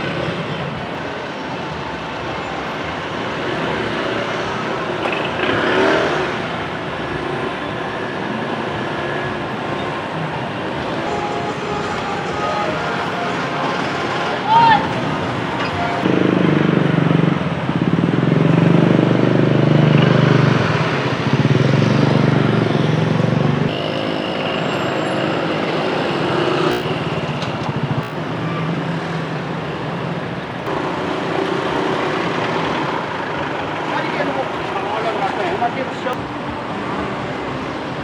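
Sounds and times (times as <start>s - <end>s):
passing motorbikes and cars: 0.0s - 38.0s.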